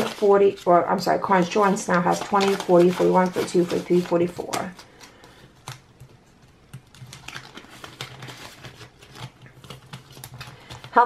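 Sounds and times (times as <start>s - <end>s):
paper money rustling: 0.0s - 11.0s.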